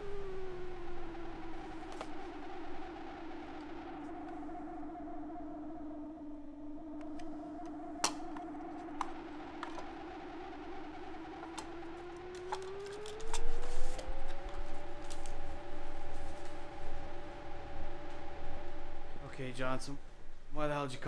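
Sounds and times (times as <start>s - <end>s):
low drone: 0.0s - 21.0s.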